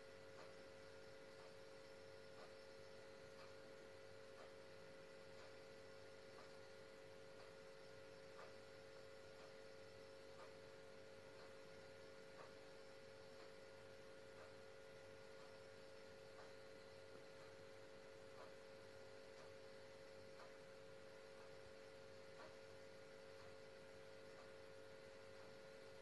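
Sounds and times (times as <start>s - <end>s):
faint electrical hum: 0.0s - 26.0s
soft ticking: 0.0s - 26.0s.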